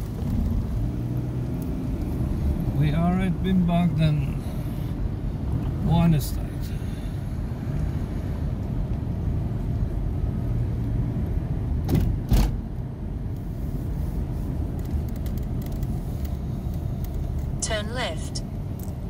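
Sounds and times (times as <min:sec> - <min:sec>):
car rumbling on dirt road: 0:00.0 - 0:19.0.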